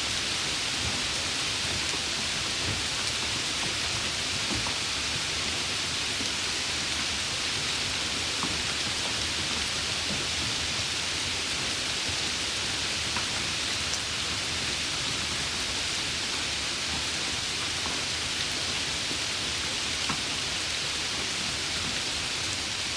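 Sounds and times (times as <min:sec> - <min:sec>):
heavy rain hissing: 0:00.0 - 0:22.9.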